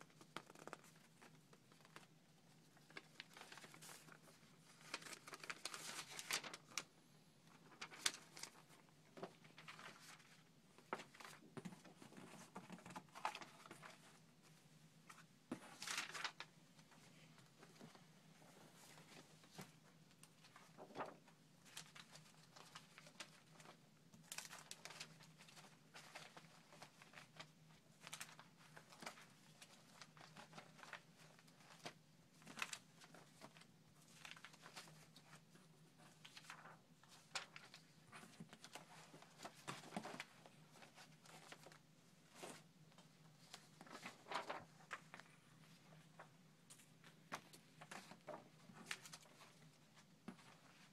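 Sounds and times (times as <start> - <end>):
paper rustling and shuffling: 0.0 - 50.9.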